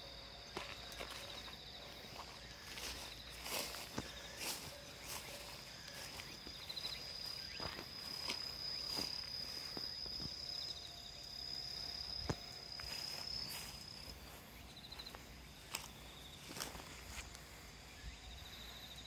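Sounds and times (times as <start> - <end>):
insect trills: 0.0 - 19.0
footsteps through dry grass: 0.2 - 10.8, 11.4 - 18.9.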